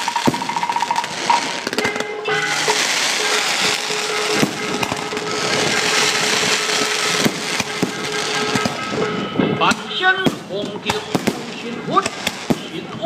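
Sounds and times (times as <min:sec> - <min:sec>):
electronic fireworks crackling: 0:00.0 - 0:13.0.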